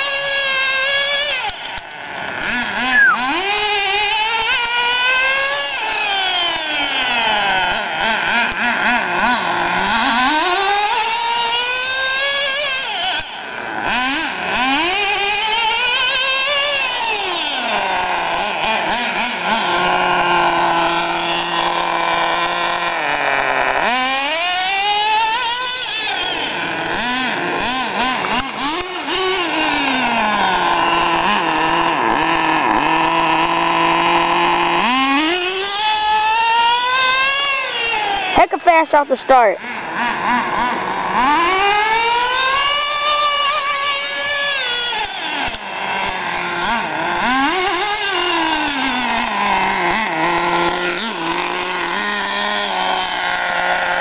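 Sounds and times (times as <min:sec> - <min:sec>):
rc car engine revving: 0:00.0 - 0:54.0.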